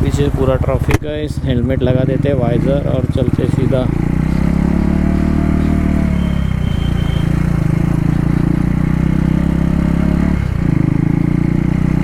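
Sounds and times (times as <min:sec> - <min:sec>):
loud motorcycle engine: 0:00.0 - 0:12.0.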